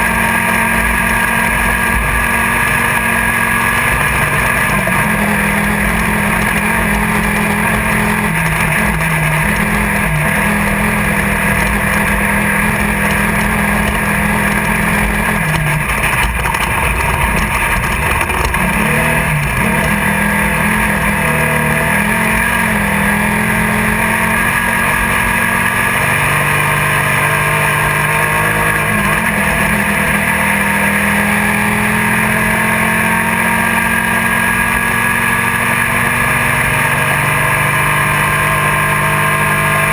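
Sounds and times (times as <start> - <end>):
buggy engine running hard: 0.0 - 39.9
driving noise: 0.0 - 39.9.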